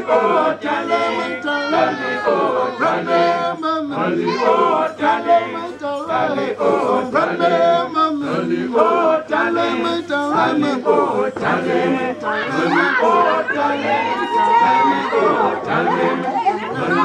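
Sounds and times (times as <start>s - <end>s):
vocal group singing a cappella: 0.0s - 17.0s.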